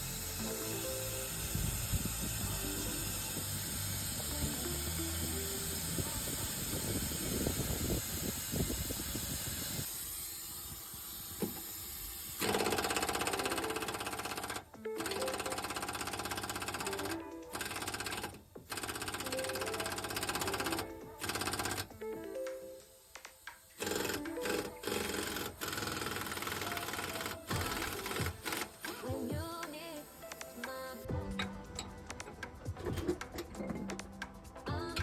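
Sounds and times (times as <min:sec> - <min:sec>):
background music: 0:00.0 - 0:07.6, 0:12.4 - 0:35.0
pneumatic tool hammering: 0:00.0 - 0:31.9.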